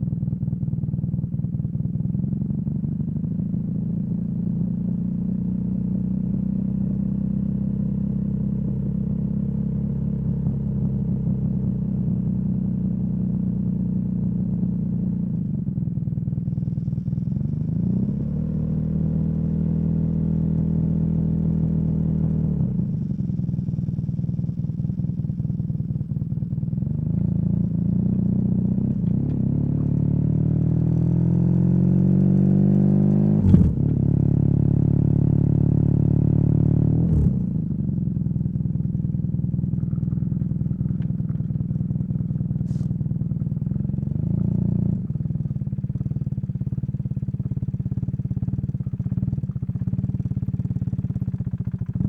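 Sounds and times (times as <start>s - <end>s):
motorcycle engine revving: 2.7s - 52.0s.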